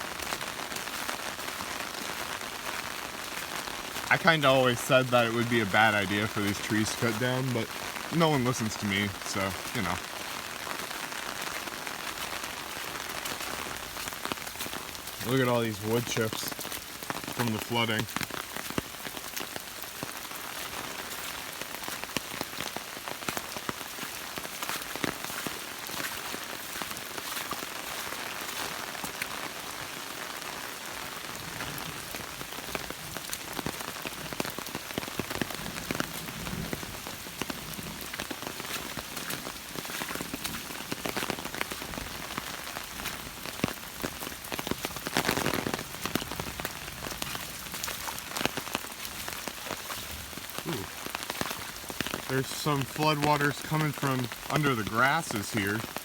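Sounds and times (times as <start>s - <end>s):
raindrops ticking close by: 0.0s - 56.0s
steady rain hiss: 0.0s - 56.0s.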